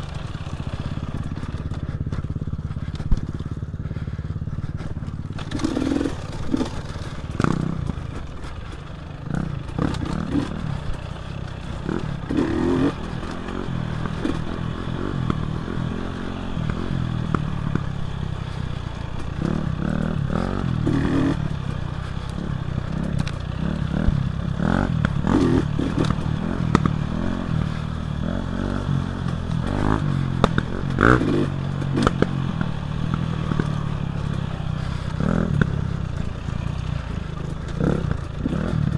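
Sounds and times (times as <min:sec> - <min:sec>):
bike clattering over rough ground: 0:00.0 - 0:27.9, 0:29.2 - 0:38.9
dirt bike engine revving: 0:00.0 - 0:38.9.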